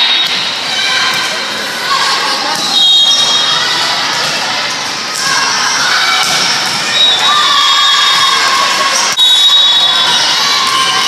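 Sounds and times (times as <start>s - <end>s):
crowd cheering and shouting: 0.0s - 11.0s.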